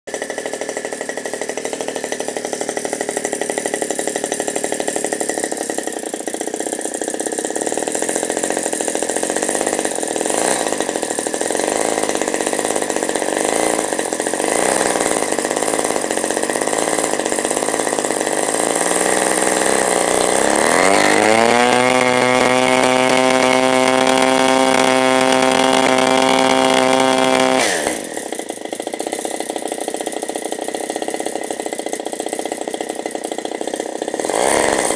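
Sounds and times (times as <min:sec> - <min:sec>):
model aeroplane engine revving: 0:00.1 - 0:34.9.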